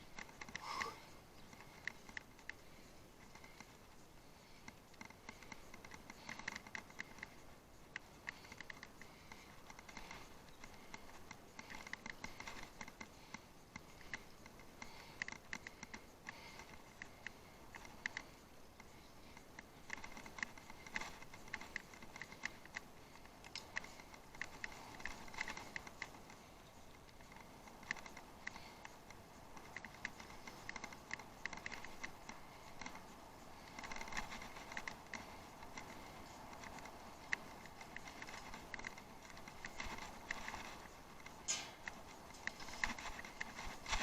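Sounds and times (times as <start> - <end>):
bicycle clicks and rattles: 0.0 - 44.0.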